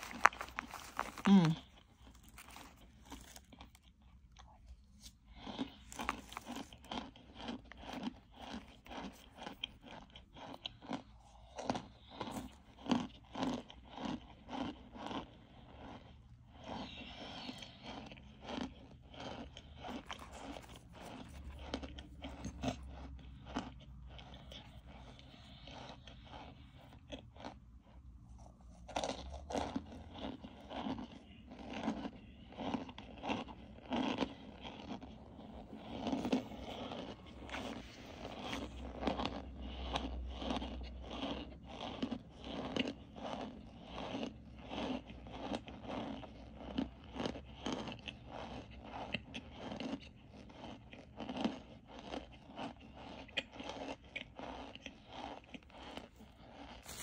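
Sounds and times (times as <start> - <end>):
chewing crunchy chunks: 0.0 - 57.0.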